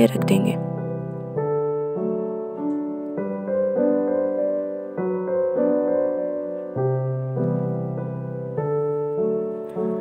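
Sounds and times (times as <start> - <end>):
slow solo piano melody: 0.0 - 10.0.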